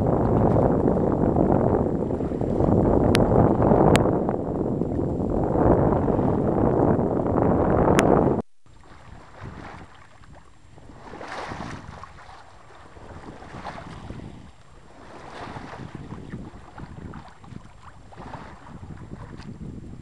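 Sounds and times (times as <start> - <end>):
water washing along hull: 0.0 - 20.0
wind gusts on microphone: 0.0 - 20.0.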